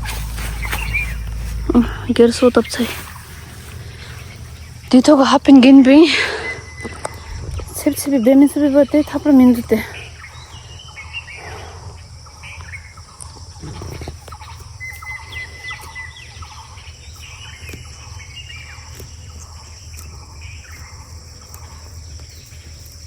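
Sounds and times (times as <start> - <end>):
birds chirping: 0.0 - 23.0
insect drone: 0.0 - 23.0
low steady rumble: 0.0 - 23.0.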